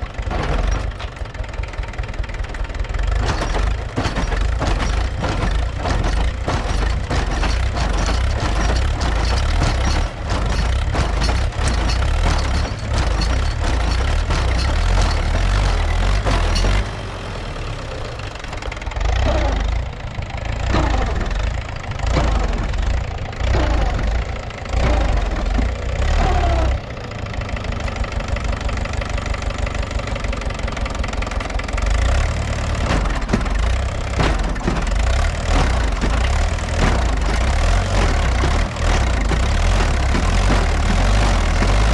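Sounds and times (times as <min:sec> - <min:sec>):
tractor diesel engine knocking: 0:00.0 - 0:41.9.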